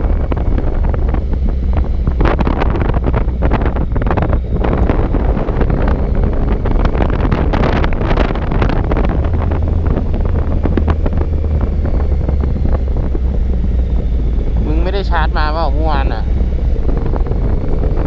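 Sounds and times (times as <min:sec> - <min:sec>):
motorcycle engine drone: 0:00.0 - 0:18.0
wind buffeting microphone: 0:00.0 - 0:18.0.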